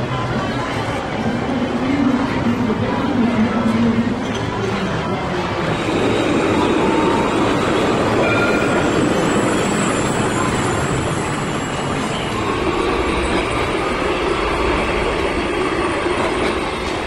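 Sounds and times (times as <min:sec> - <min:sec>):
tram wheels on rail: 0:00.0 - 0:17.0.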